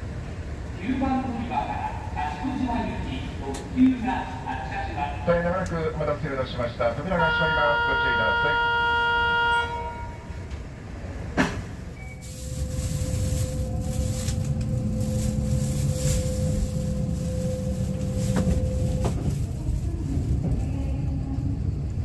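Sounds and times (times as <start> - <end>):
train running rumble: 0.0 - 22.0.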